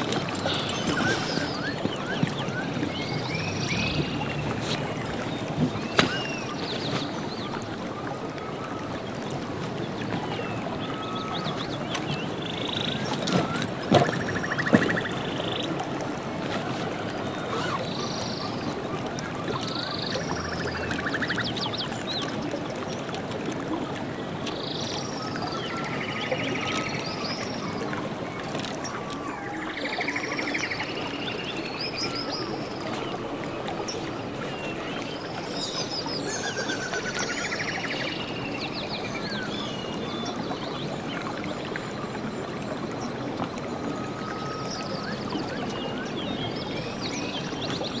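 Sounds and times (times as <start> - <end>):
birds calling: 0.0 - 48.0
stream water rushing: 0.0 - 48.0.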